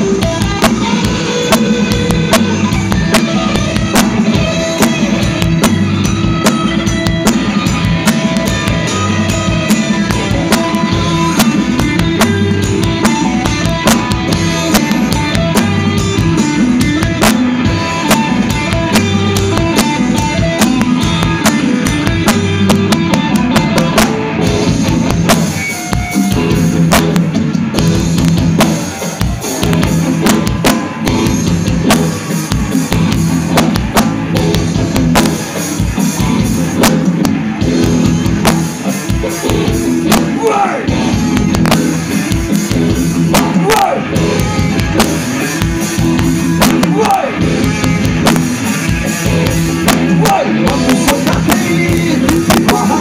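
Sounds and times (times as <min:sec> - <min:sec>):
drum hits: 0:00.0 - 0:53.0
live rock band playing: 0:00.0 - 0:53.0.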